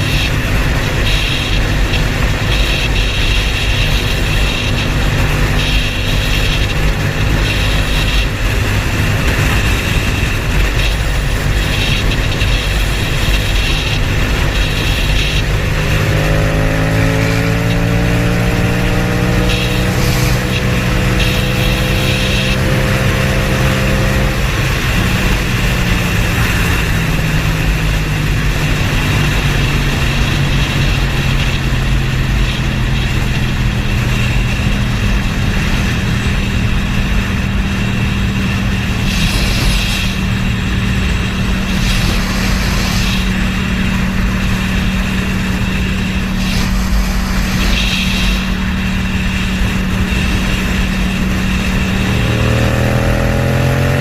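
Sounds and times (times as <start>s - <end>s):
road and wind noise: 0.0s - 54.0s
vehicle engine accelerating: 0.0s - 54.0s.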